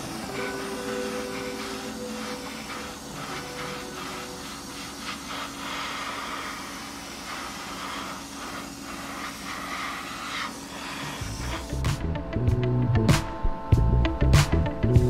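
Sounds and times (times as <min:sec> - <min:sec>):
airbrush spraying hiss: 0:00.0 - 0:12.1
steady rush of air: 0:00.0 - 0:14.9.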